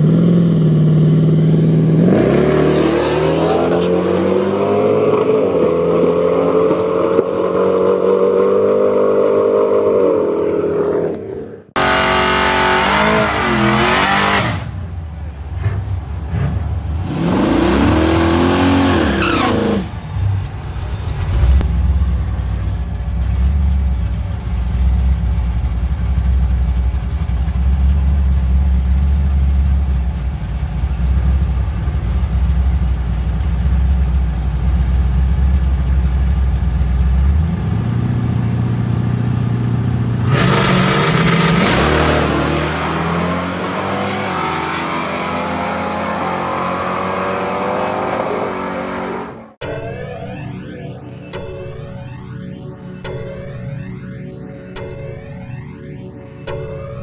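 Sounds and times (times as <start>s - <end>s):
truck engine revving and idling: 0.0s - 49.6s.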